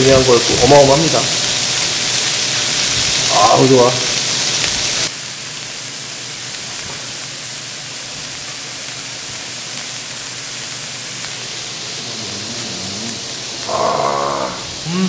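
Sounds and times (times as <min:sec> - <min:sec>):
meat sizzling on grill pan: 0:00.0 - 0:15.0.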